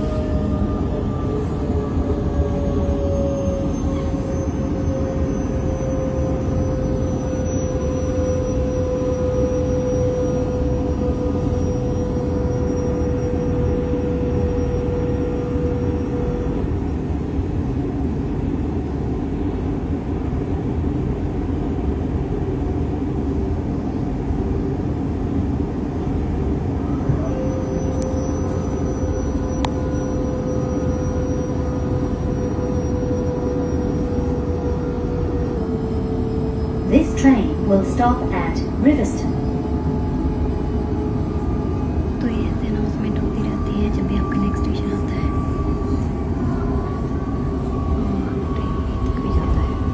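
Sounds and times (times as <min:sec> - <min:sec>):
train whine: 0:00.0 - 0:49.9.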